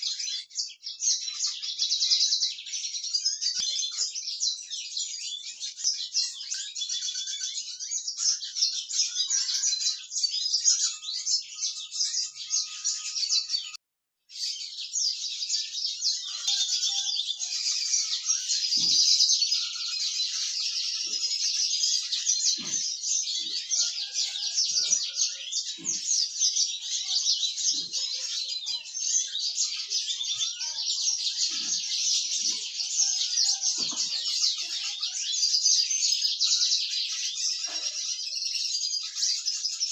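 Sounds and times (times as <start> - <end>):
finches singing: 0.0 - 39.9.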